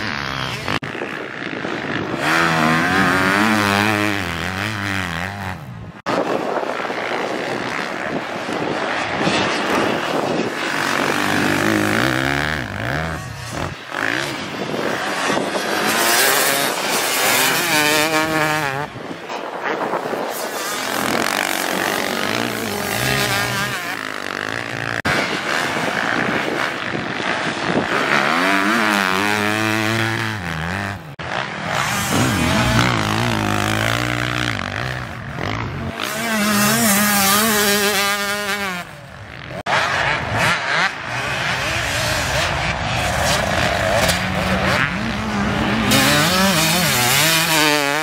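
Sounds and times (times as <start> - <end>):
dirt bike engines revving: 0.0 - 48.0.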